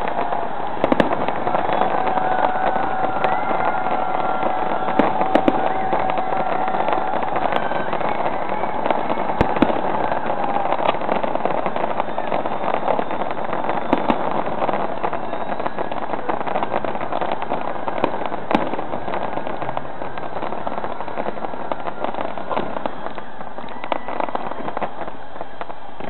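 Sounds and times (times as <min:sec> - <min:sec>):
fireworks crackling and popping: 0:00.0 - 0:26.0
sharp firework bangs: 0:00.0 - 0:26.0.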